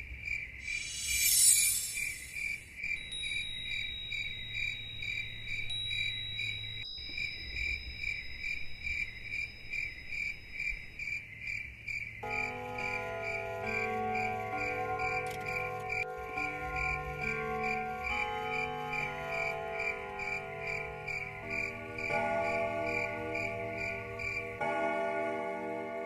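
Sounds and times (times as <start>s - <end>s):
crickets chirping: 0.0s - 25.2s.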